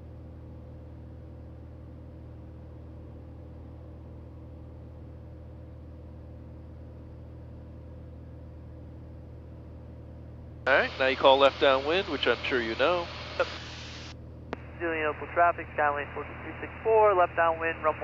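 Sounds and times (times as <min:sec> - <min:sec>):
airplane engine and propeller drone: 0:00.0 - 0:18.0.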